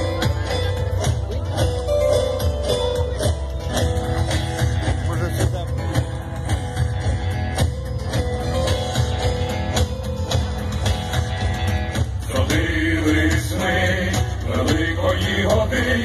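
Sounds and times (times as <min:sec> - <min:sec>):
loud live music: 0:00.0 - 0:16.0.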